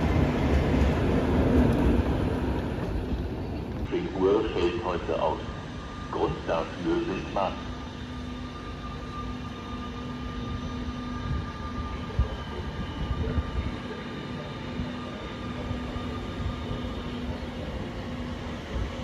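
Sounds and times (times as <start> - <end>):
train electric hum: 0.0 - 19.0
wheel and track rumble: 0.0 - 19.0.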